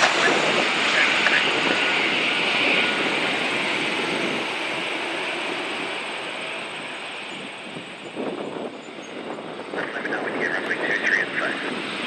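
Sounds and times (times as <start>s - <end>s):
jet airliner engines passing: 0.0s - 12.0s.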